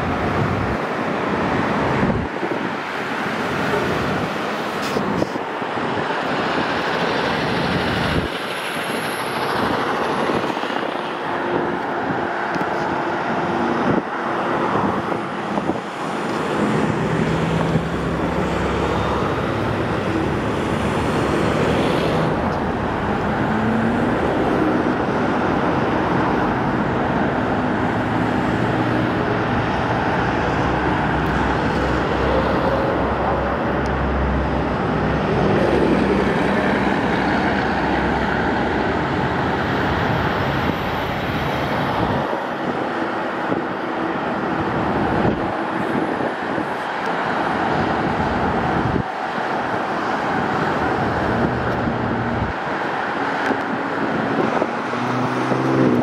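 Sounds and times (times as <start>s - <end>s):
highway traffic: 0.0s - 56.0s.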